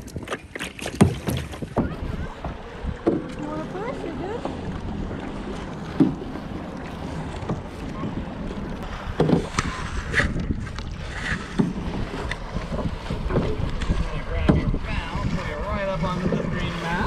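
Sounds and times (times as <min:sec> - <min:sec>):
paddle strokes and splashes: 0:00.0 - 0:17.0
wind on microphone: 0:01.0 - 0:17.0.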